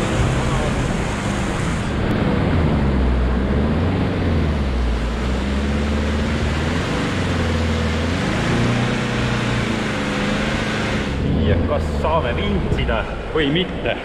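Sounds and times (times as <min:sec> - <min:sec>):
engine revving: 0:00.0 - 0:14.0
vehicle pushing through mud: 0:00.0 - 0:14.0.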